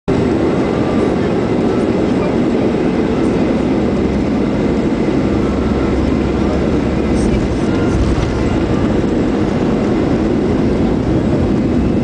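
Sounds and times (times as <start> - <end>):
jet engine noise: 0.1 - 12.0
wheels rumbling on runway: 0.1 - 12.0.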